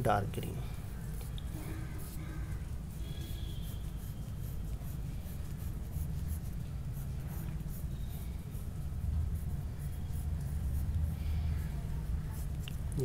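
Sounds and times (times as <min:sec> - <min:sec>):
pencil scratching on paper: 0:00.8 - 0:12.6.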